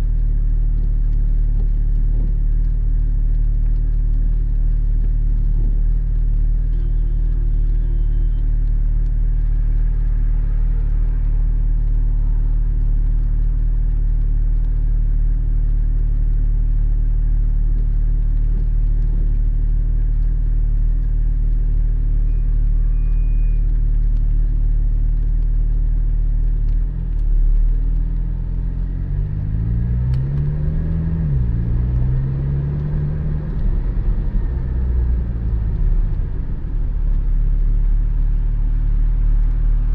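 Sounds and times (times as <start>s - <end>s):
car engine cruising: 0.0s - 39.9s
road noise: 0.0s - 39.9s.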